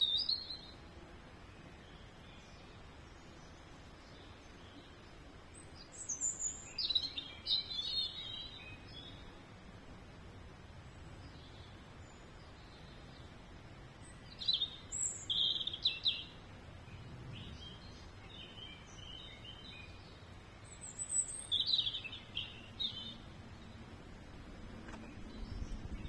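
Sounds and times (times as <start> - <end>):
faint bird chirps: 0.0 - 0.8, 1.4 - 9.4, 10.8 - 26.0
low background hiss: 0.0 - 26.0
songbird singing: 0.0 - 26.0.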